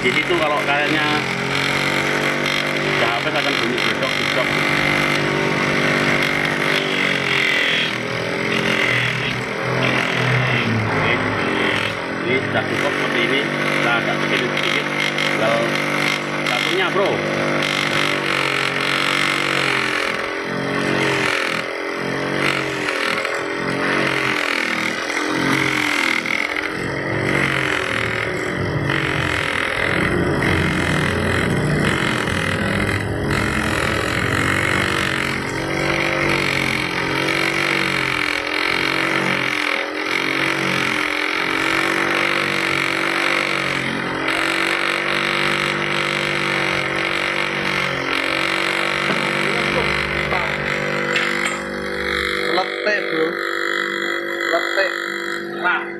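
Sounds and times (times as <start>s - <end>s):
electric grinder grinding rubber: 0.0s - 55.9s.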